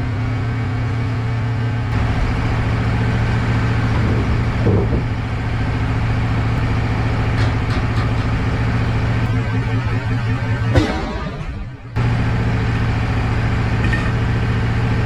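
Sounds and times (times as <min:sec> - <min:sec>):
sawmill engine running: 0:01.4 - 0:15.0.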